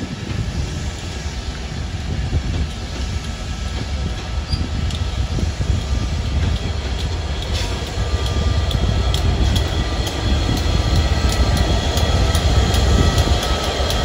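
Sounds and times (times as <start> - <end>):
diesel locomotive rumble: 0.0 - 14.0
train wheel clicks on rails: 0.0 - 14.0.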